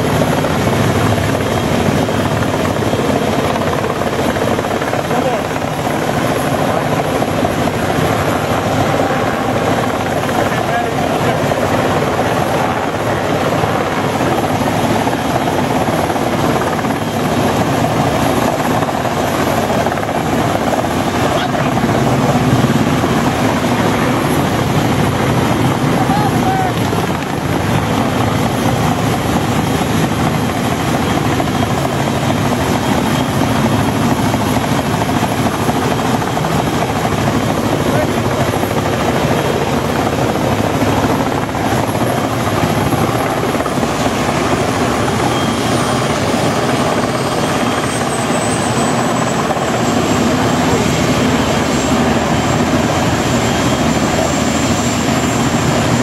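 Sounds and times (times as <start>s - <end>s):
helicopter rotors and engines: 0.0s - 56.0s.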